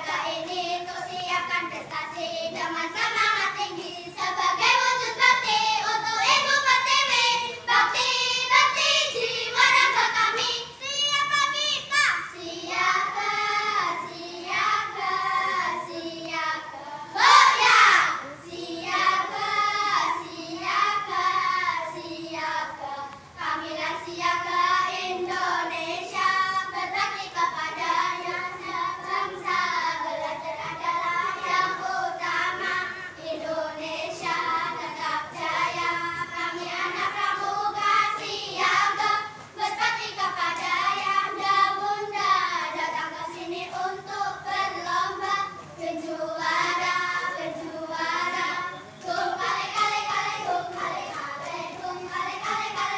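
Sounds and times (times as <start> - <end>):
children singing a cheer song: 0.0 - 52.9.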